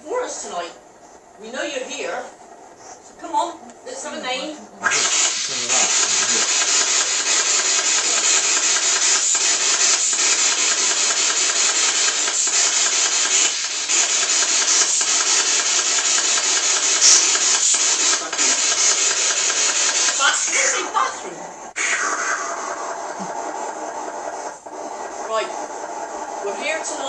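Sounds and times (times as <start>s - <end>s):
radio static: 3.3s - 27.0s.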